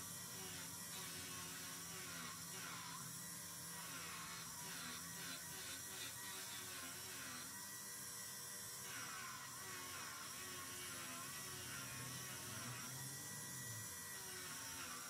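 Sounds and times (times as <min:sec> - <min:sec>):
bench grinder whirring: 0:00.0 - 0:15.0.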